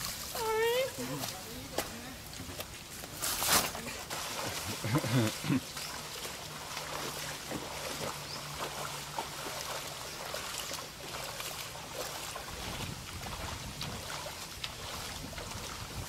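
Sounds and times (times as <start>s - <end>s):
water sloshing around wading legs: 0.0s - 16.0s.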